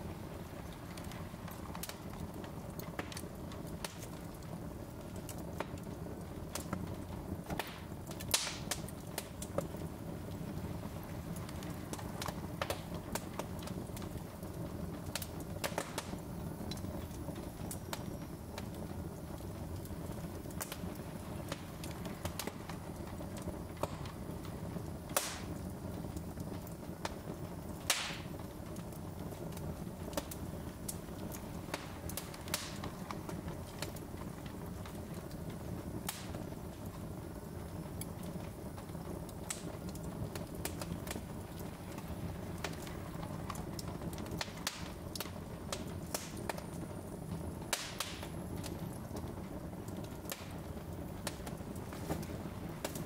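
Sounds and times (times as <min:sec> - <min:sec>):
fire crackling and popping: 0:00.0 - 0:53.0
low rush of flame: 0:00.0 - 0:53.0.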